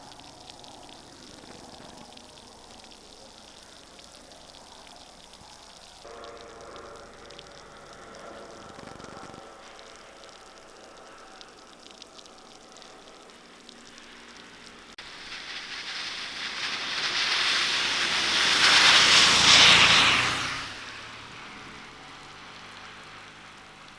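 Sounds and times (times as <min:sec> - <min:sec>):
tyre hiss on wet road: 0:00.0 - 0:23.9.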